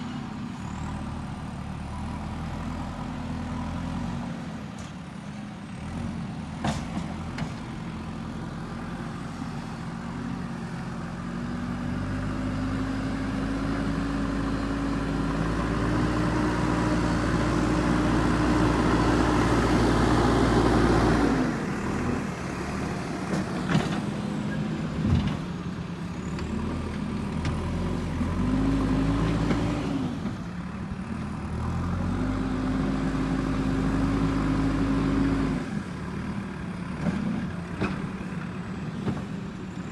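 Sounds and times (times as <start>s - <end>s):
diesel engine revving: 5.6s - 39.9s.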